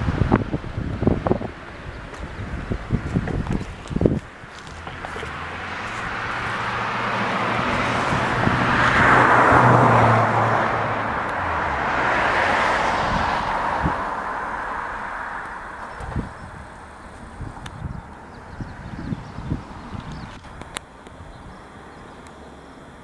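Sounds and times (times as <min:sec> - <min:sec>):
low engine hum: 0:00.0 - 0:23.0
vehicles passing: 0:00.0 - 0:23.0.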